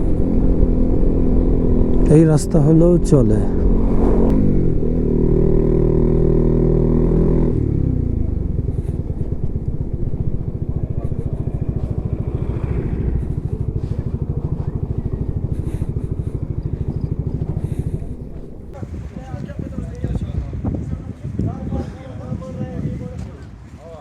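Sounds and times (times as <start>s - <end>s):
motorcycle engine revving and idling: 0.0s - 19.8s.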